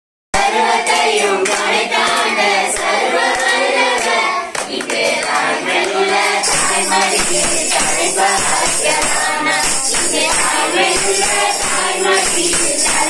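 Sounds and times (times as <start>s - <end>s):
congregation singing: 0.4s - 13.0s
hand clapping: 0.4s - 13.0s.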